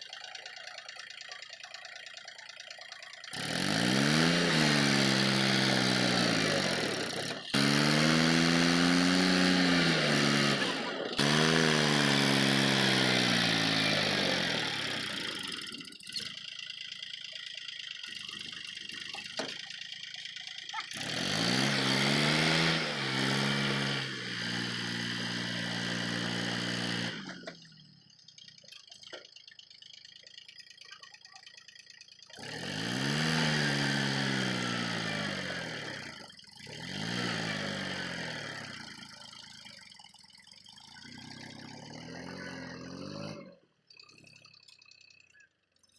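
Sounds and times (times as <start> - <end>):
diesel tractor engine revving: 0.0 - 45.3.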